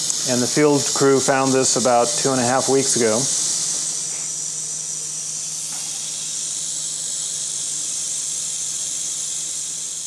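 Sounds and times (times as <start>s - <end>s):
rattlesnake rattling: 0.0s - 10.0s.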